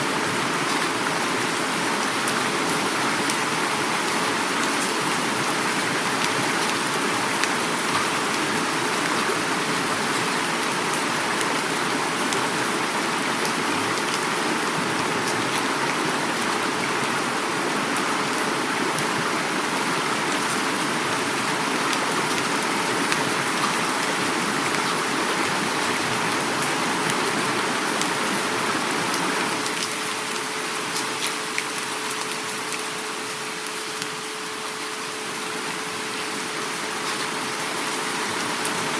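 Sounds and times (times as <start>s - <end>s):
heavy rain falling: 0.0s - 38.9s
river flowing: 0.0s - 38.9s.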